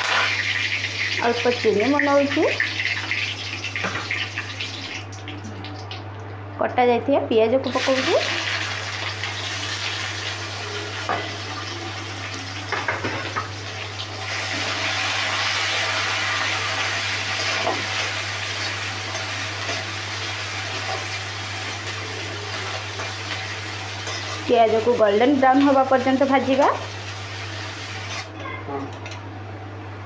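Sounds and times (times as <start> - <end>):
onions sizzling in oil: 0.0 - 5.2, 7.7 - 28.3.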